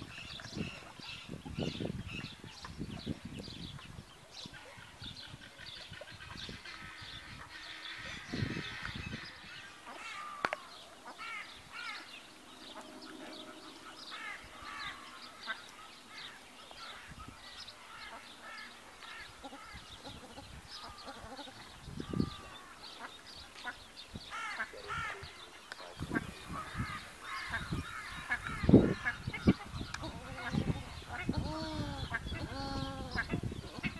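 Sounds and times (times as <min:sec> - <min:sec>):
low bird calls: 0:00.0 - 0:33.9
waterfowl and birds chirping: 0:00.0 - 0:33.9.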